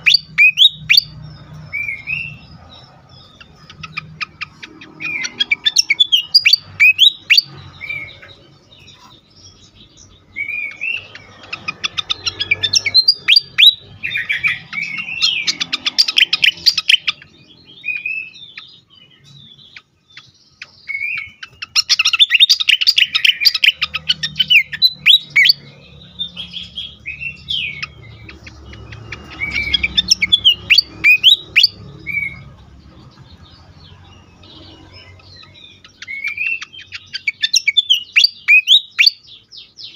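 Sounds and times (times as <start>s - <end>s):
bird chirping and twittering: 0.0s - 39.9s.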